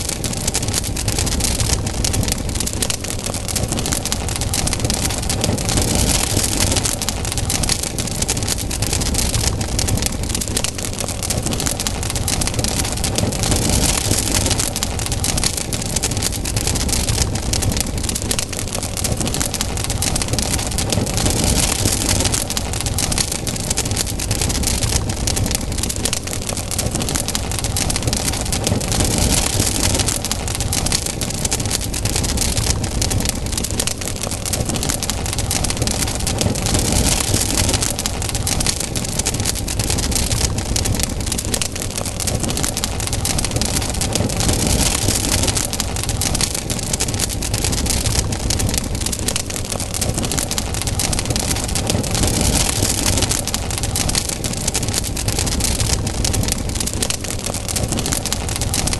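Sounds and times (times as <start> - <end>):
campfire crackling: 0.0 - 58.9
low fire rumble: 0.0 - 58.9.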